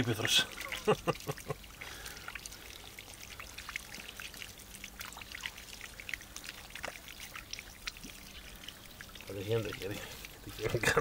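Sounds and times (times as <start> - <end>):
water spattering on grass: 0.0 - 11.0
water trickling over hands: 0.0 - 11.0.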